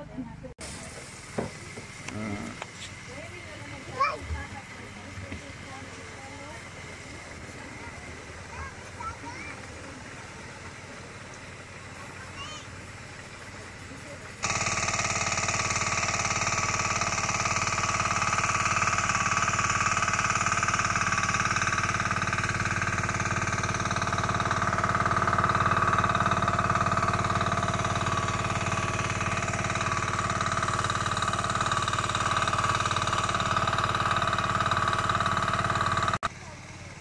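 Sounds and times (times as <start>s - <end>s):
small gasoline engine running: 0.0s - 37.0s.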